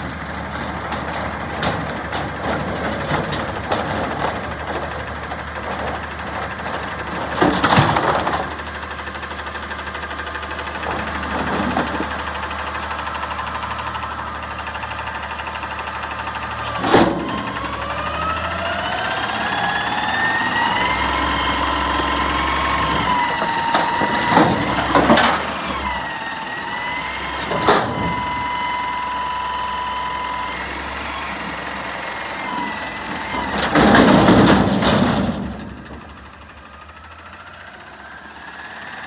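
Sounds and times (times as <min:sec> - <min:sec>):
garbage truck running with whine: 0:00.0 - 0:39.0.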